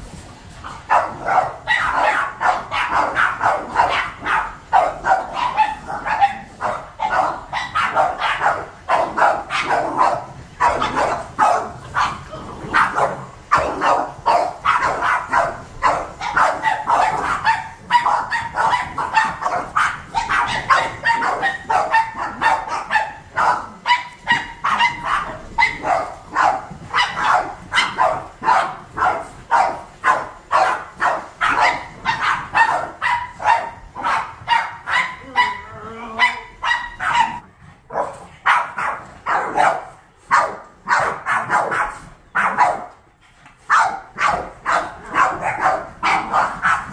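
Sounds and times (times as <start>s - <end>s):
dogs barking: 0.7s - 43.0s, 43.6s - 46.9s.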